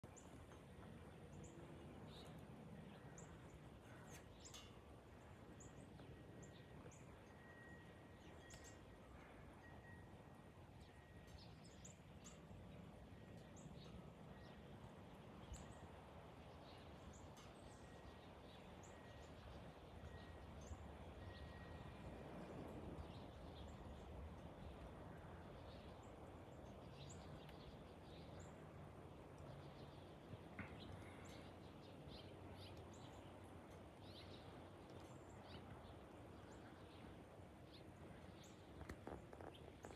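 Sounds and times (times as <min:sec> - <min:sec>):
faint low rumble: 0:00.0 - 0:39.9
small birds chirping: 0:00.0 - 0:39.9.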